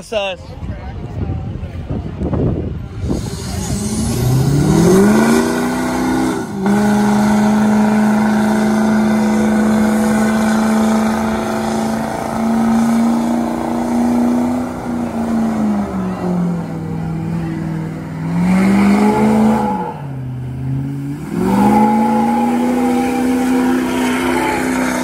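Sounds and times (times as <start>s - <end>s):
tires spinning: 2.4s - 25.0s
diesel engine revving: 2.5s - 25.0s.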